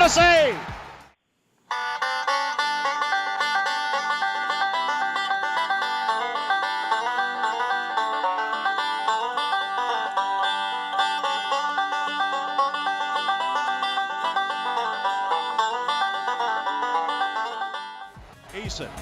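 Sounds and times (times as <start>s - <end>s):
bluegrass music with banjo: 1.7s - 18.9s.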